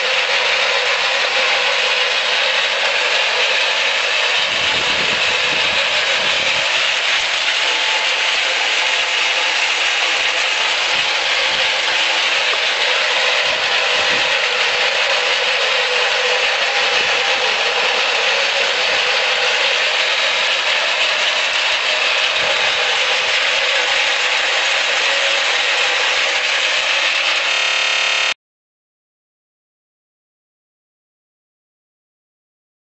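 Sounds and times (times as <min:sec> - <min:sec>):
electric meat grinder grinding: 0:00.0 - 0:28.4.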